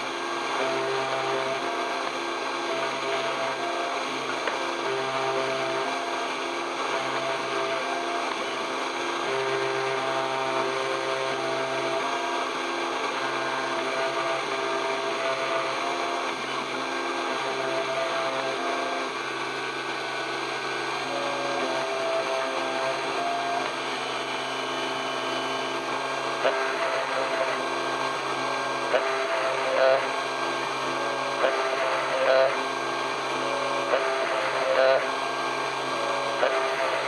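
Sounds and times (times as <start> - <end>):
milling machine spindle humming: 0.0 - 37.0.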